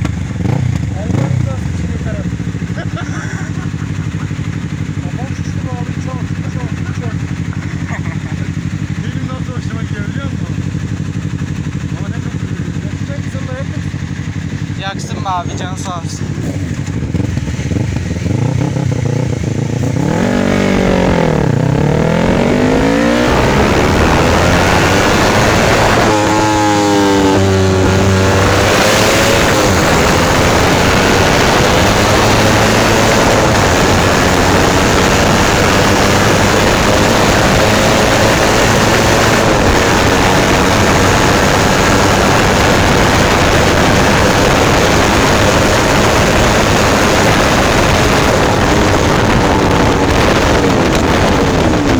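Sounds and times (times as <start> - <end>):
loud steady rush: 0.0 - 51.9
motorcycle engine: 0.0 - 51.9.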